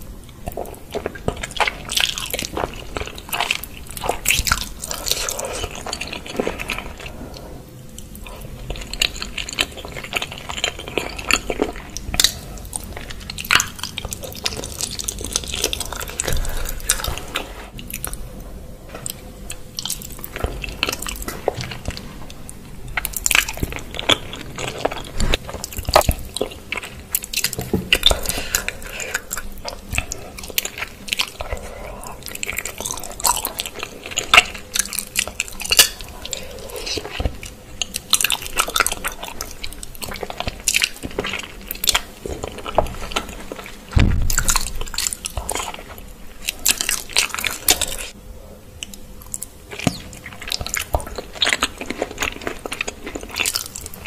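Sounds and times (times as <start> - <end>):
person chewing and biting: 0.3 - 7.2, 7.9 - 18.3, 19.0 - 48.2, 48.8 - 54.0.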